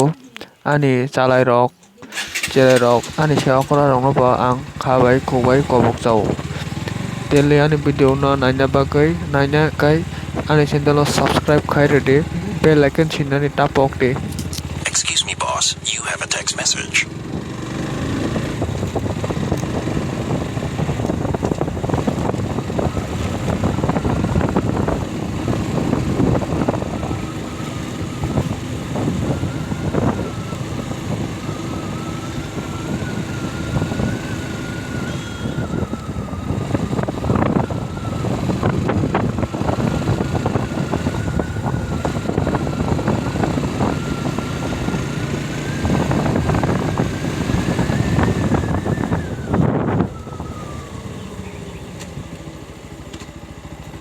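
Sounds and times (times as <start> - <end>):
motorcycle engine running: 2.1 - 15.8, 16.9 - 54.0.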